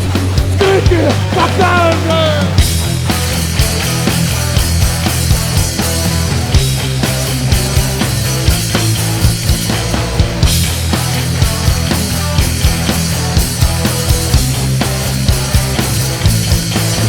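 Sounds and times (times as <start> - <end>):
punk rock band instrumental: 0.0 - 17.0.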